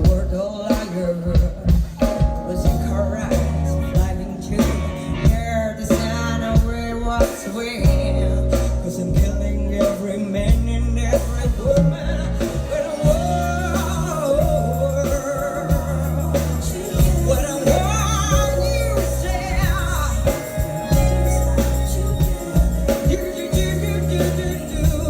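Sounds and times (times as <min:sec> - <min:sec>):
bass: 0:00.0 - 0:25.0
drums: 0:00.0 - 0:25.0
keyboards: 0:00.0 - 0:25.0.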